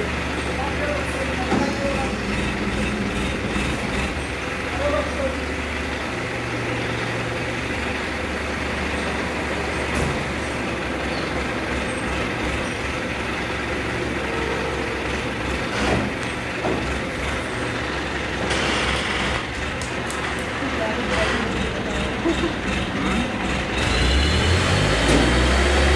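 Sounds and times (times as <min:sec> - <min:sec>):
crane diesel engine running: 0:00.0 - 0:25.9.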